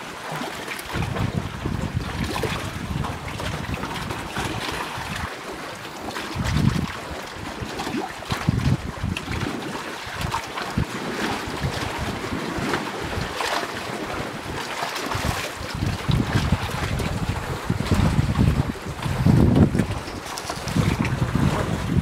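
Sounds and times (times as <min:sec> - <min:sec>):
wind buffeting microphone: 0:00.8 - 0:22.0.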